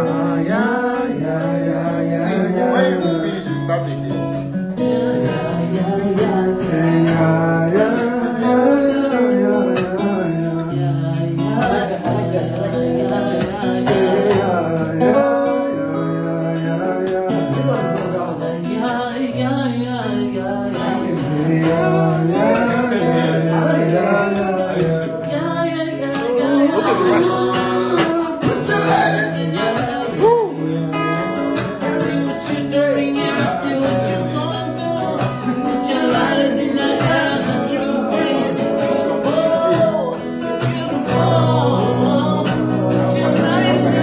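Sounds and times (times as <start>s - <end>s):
acoustic guitar strumming: 0.0s - 44.0s
man singing: 0.0s - 44.0s.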